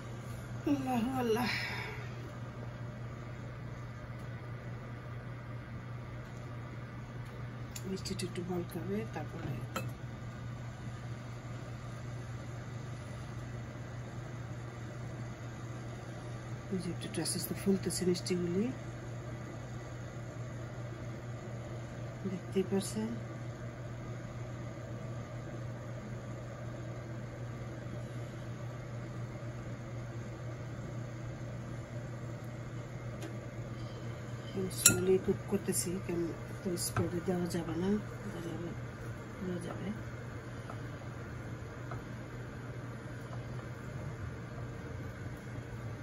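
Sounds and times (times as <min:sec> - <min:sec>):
motor humming steadily: 0:00.0 - 0:46.0.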